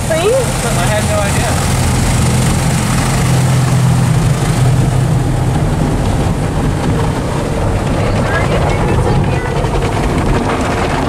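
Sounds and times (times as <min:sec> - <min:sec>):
water spraying on windshield: 0:00.0 - 0:10.6
low machinery hum: 0:00.0 - 0:11.0.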